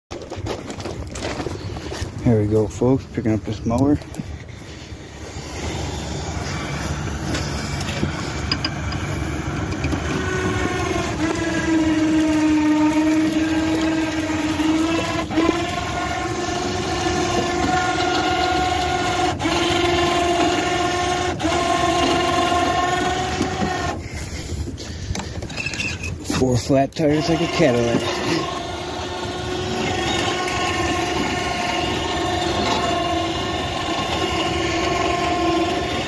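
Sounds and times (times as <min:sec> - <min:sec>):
winch whining: 0:00.1 - 0:36.0.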